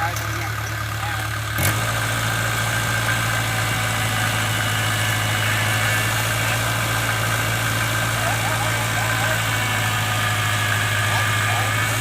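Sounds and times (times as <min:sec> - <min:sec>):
heavy machine engine humming: 0:00.0 - 0:12.0.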